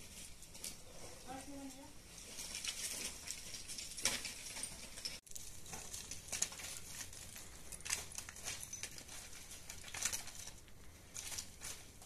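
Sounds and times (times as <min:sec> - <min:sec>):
small clicks and clatters: 0:02.2 - 0:12.0.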